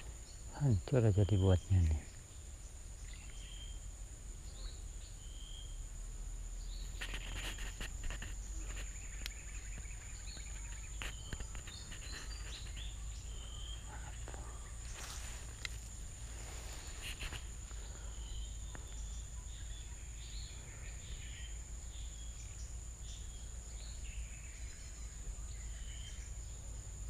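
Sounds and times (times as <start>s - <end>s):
bird chirps: 0.0s - 5.8s, 6.6s - 15.8s, 16.4s - 26.8s.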